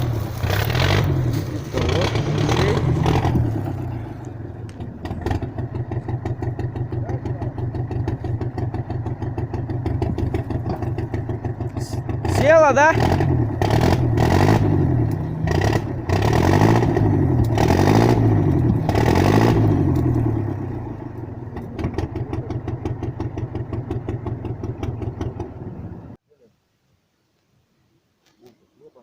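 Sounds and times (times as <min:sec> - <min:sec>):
small engine revving: 0:00.0 - 0:25.7.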